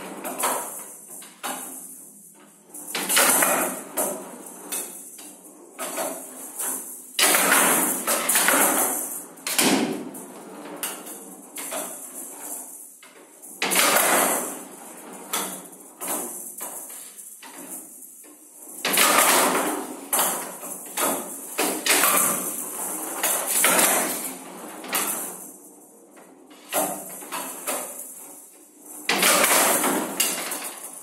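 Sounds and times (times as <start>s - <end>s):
ball rattling and rolling: 0.0s - 31.0s.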